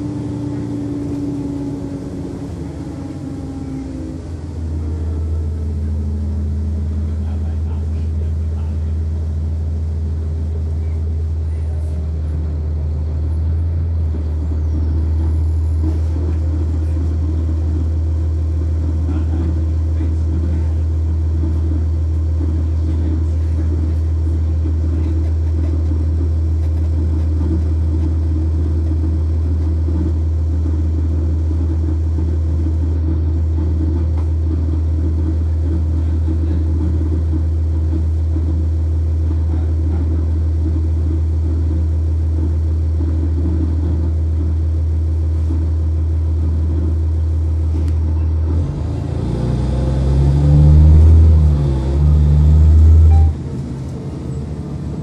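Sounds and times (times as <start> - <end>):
bus diesel engine droning: 0.0 - 55.0.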